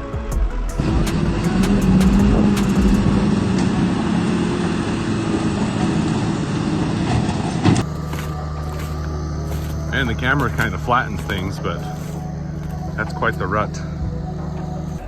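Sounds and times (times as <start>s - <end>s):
tractor engine droning: 0.5s - 15.0s.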